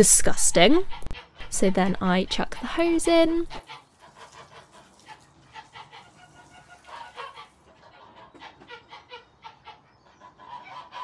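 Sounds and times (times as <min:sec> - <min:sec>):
poultry clucking: 0:00.7 - 0:02.5, 0:03.4 - 0:11.0.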